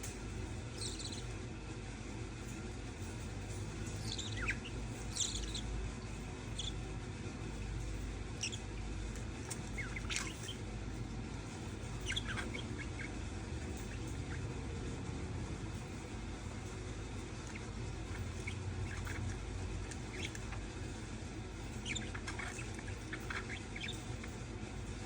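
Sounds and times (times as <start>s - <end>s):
low background hum: 0.0s - 25.0s
budgerigars chirping: 0.7s - 1.4s, 3.4s - 10.7s, 11.4s - 14.6s, 15.7s - 25.0s.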